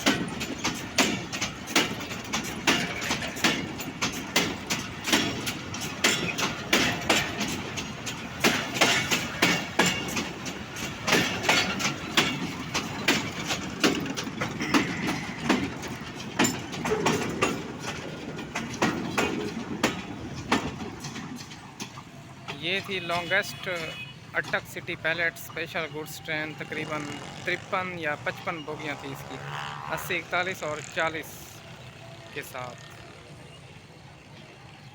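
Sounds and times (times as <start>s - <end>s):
train rumble: 0.0s - 34.9s
train wheels clattering over joints: 0.0s - 34.9s.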